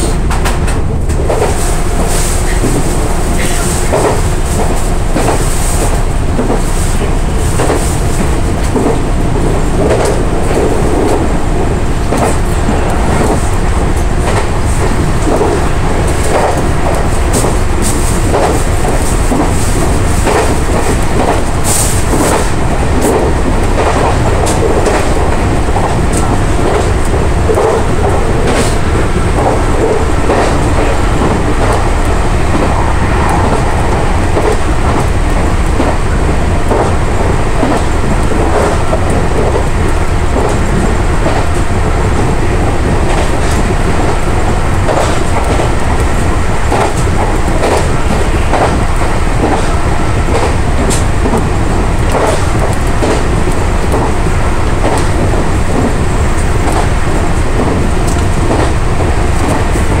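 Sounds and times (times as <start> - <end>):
rail joint clicks: 0.0 - 60.0
train wheels rumbling on rail: 0.0 - 60.0.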